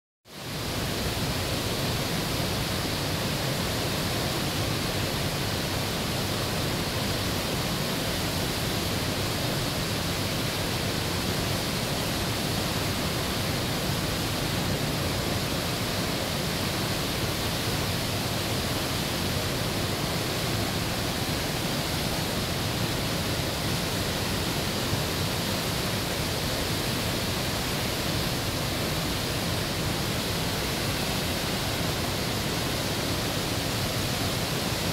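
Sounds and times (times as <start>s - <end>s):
whitewater rapids rushing: 0.4s - 34.9s.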